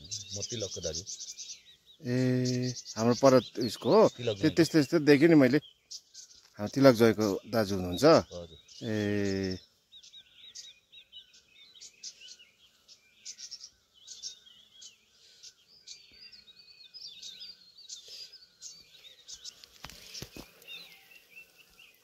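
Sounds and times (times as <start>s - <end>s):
small birds chirping and singing: 0.0s - 22.0s.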